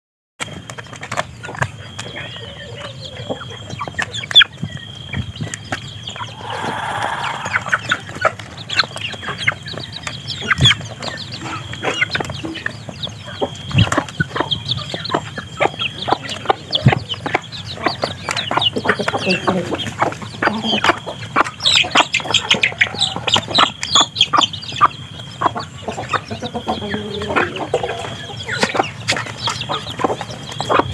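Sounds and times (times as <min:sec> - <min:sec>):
chickens pecking on tray: 0:00.4 - 0:30.9
chicks chirping and clucking: 0:00.4 - 0:30.9.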